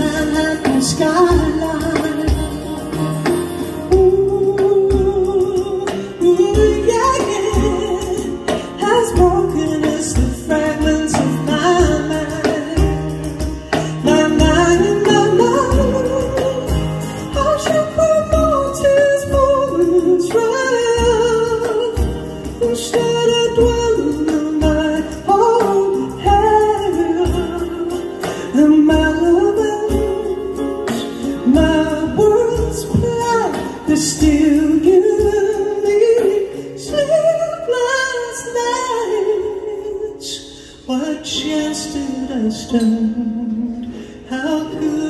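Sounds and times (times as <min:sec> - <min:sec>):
acoustic guitar strumming: 0:00.0 - 0:39.5
hand drum: 0:00.0 - 0:39.6
woman singing: 0:00.0 - 0:45.0.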